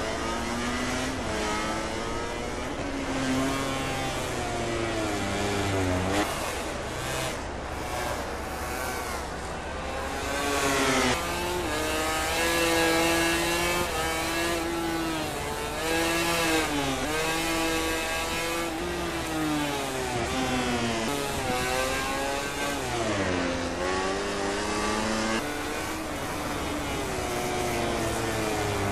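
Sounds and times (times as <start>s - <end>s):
racing motorcycle engine: 0.0s - 28.9s.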